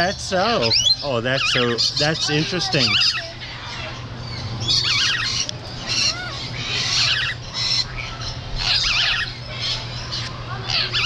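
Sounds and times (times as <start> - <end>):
parrots squawking: 0.0 - 11.0
steady low hum: 0.0 - 11.0.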